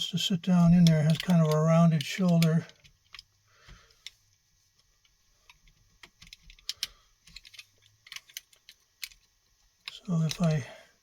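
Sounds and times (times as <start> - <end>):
small clicks and light scrapes: 0.6 - 10.6.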